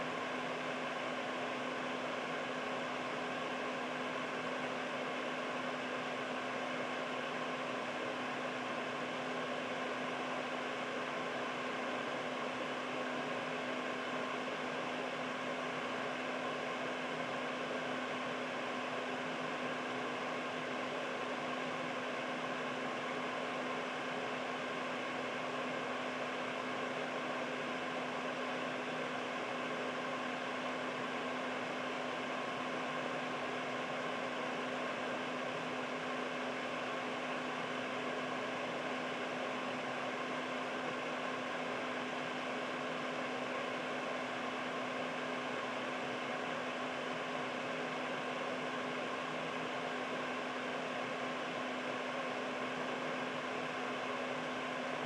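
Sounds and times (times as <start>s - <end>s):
air purifier fan rushing: 0.0s - 55.0s.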